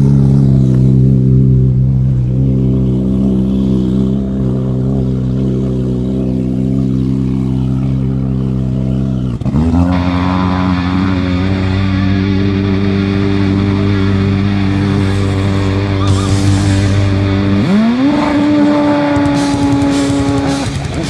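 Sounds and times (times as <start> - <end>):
watercraft engine running: 0.0 - 21.0.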